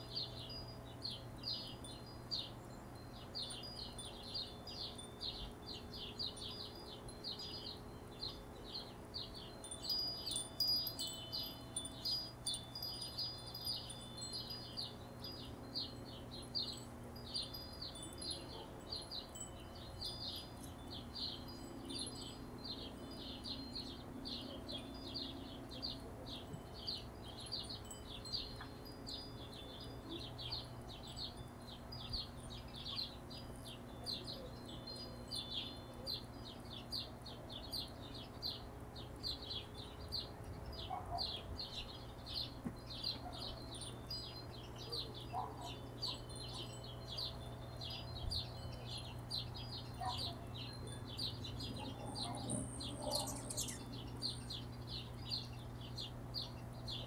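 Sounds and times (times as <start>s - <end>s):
hummingbirds chattering: 0.0s - 57.0s.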